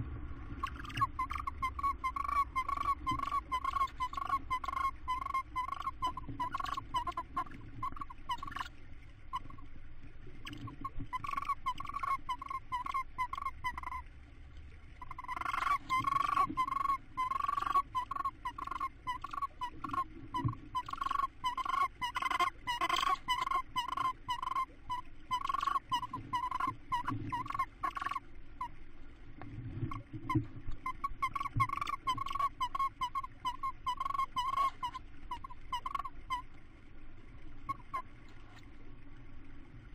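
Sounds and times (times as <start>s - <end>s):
owls calling: 0.6s - 8.7s, 9.3s - 9.6s, 10.4s - 14.0s, 15.0s - 28.7s, 29.9s - 36.4s, 37.7s - 38.1s.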